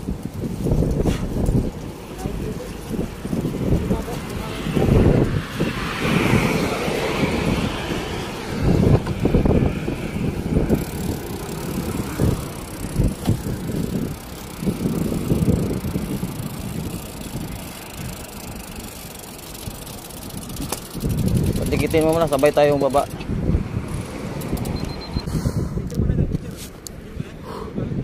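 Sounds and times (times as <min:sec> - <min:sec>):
steady road noise: 0:00.0 - 0:28.0
wind buffeting microphone: 0:00.0 - 0:28.0.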